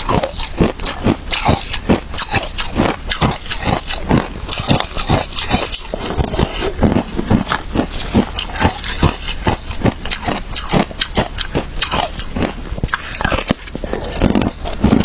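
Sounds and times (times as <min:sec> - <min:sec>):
chewing crunchy shaved ice: 0:00.0 - 0:15.0.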